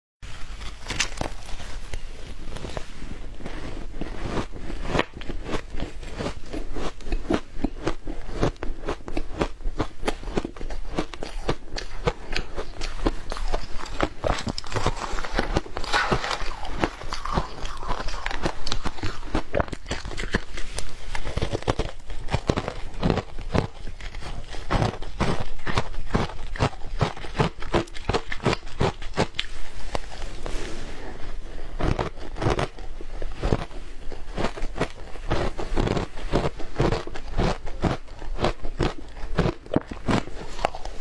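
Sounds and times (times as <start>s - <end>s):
chewing crunchy ice: 0.5s - 41.0s.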